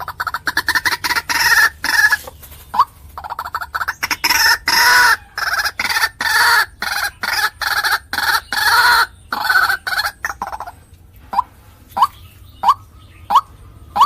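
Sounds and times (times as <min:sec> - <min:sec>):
waterhen calling harshly: 0:00.0 - 0:14.0.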